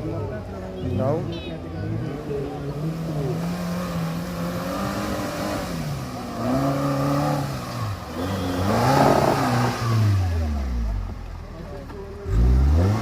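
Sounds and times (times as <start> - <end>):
off-road engine revving: 0.9 - 13.0.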